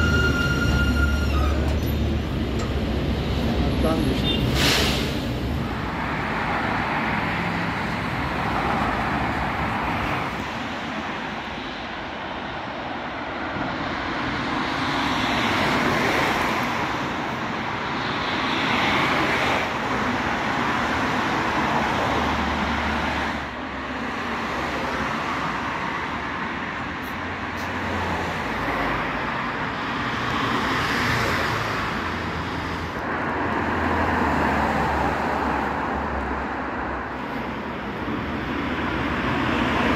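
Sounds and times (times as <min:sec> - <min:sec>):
passing cars rushing: 0:00.0 - 0:39.9.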